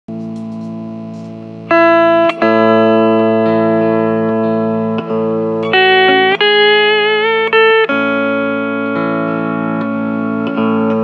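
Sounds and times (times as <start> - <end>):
steel guitar slow melody: 0.1 - 11.0.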